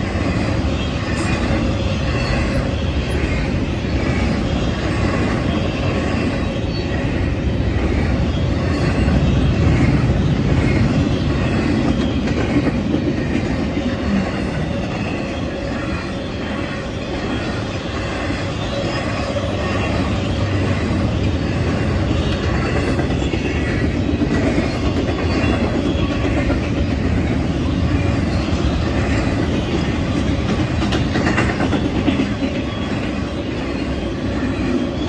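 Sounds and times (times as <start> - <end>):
freight train wheels rumbling on rails: 0.0 - 35.0.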